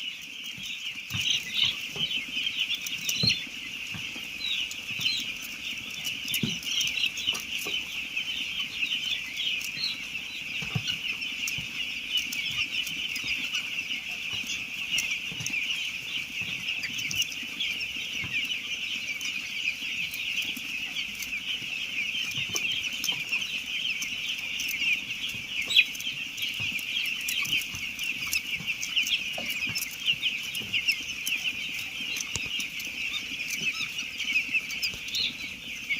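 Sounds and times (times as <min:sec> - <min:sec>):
chicks peeping: 0:00.0 - 0:35.9.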